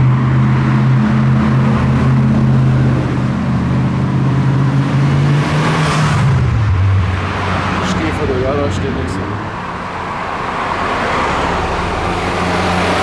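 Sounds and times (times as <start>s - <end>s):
car engine running: 0.0s - 12.7s.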